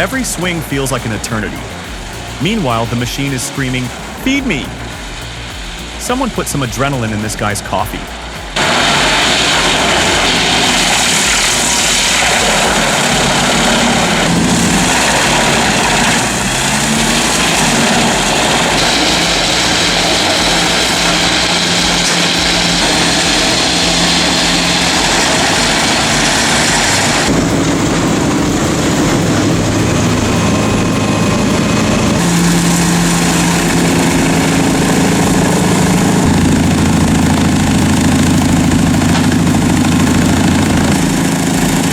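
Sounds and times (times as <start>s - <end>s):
wood chipper engine: 0.0s - 41.9s
wood being chipped: 8.1s - 41.9s.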